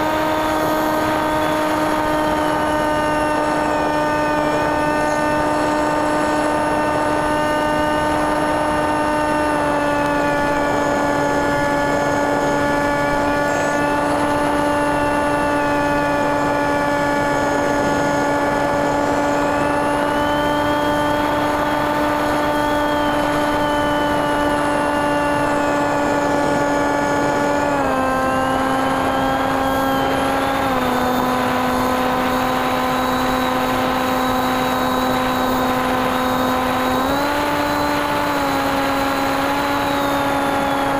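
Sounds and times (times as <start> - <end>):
electric motor and propeller drone: 0.0 - 40.9.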